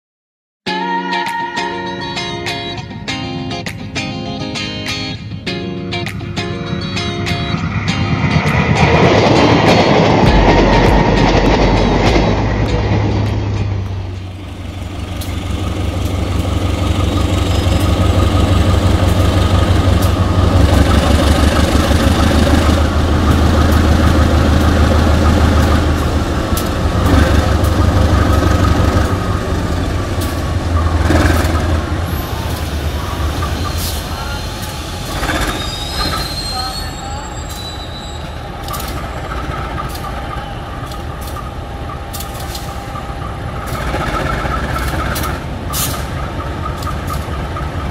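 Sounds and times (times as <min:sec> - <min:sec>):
locomotive diesel engine humming: 0:06.6 - 0:47.9.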